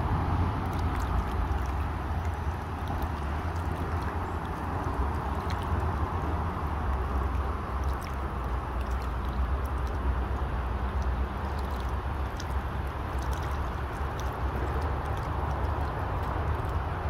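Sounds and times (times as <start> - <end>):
river water rushing: 0.0 - 17.0
small splashes: 0.0 - 17.0.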